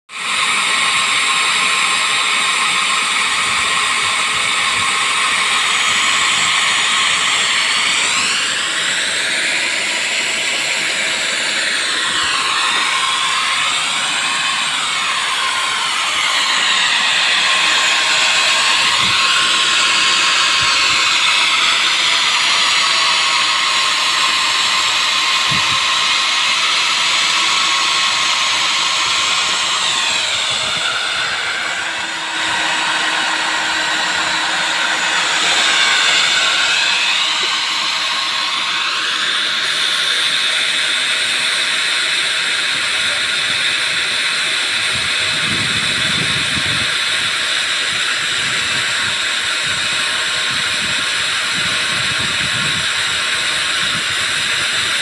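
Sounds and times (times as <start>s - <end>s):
power tool whining: 0.1s - 55.0s.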